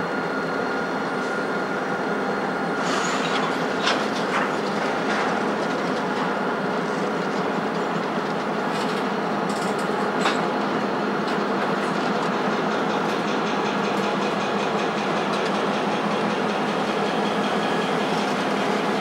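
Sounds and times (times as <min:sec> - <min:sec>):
diesel locomotive engines running: 0:00.0 - 0:19.0.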